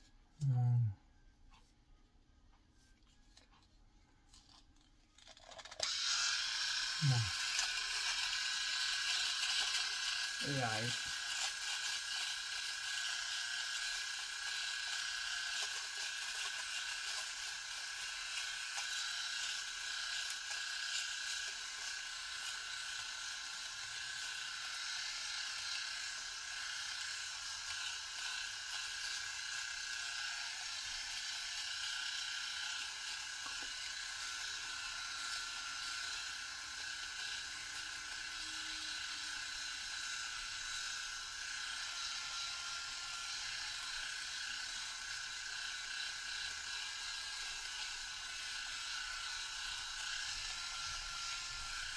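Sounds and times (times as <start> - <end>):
electric shaver buzzing: 4.3 - 51.9.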